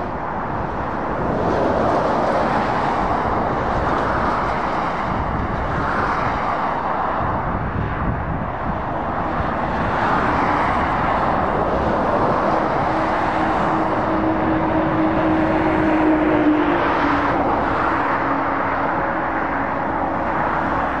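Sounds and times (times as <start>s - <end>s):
diesel engine hum: 0.0s - 21.0s
lorry tyre roar: 0.0s - 21.0s.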